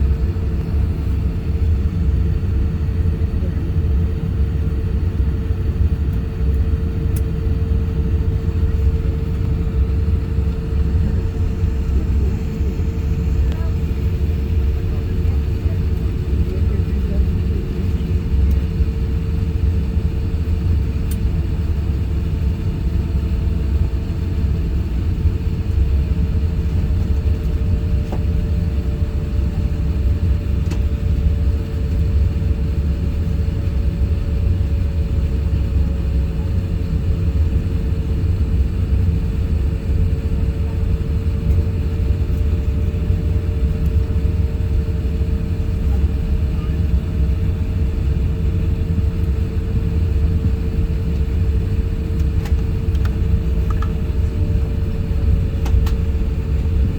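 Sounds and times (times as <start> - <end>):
jet engine rumble in cabin: 0.0 - 56.9.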